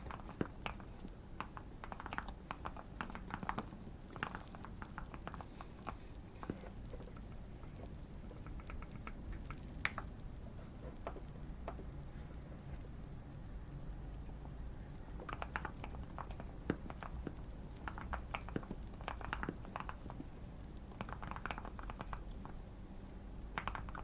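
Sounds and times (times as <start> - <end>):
fire crackling: 0.0 - 24.0
low steady hum: 0.0 - 24.0.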